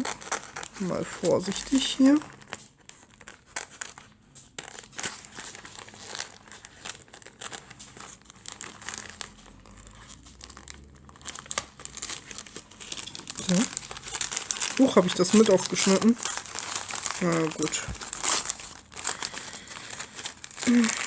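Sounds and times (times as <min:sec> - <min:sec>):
wrapping crinkling: 0:00.0 - 0:21.0.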